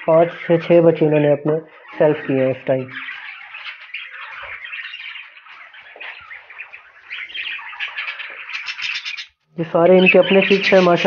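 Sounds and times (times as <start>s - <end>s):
budgerigars chattering and warbling: 0.0s - 11.0s.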